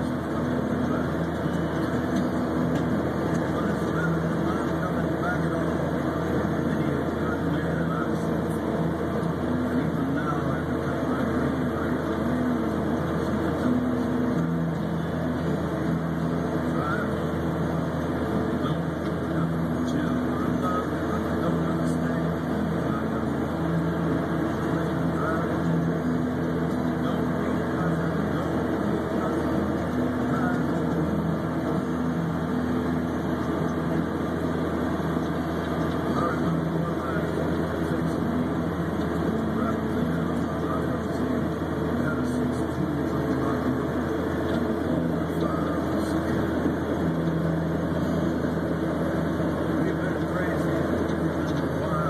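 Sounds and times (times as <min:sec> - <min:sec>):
diesel engine droning: 0:00.0 - 0:52.0
tiller churning snow: 0:00.0 - 0:52.0.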